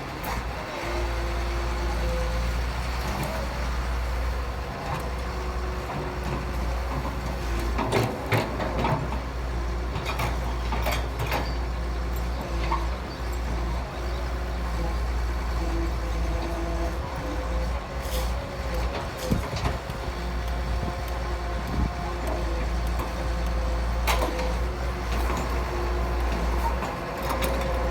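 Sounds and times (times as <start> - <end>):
diesel machinery running: 0.0 - 27.9.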